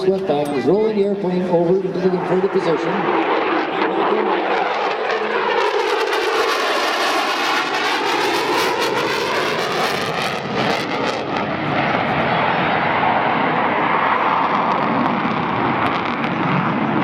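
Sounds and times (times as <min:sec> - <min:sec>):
jet engines passing at high speed: 0:00.0 - 0:17.0.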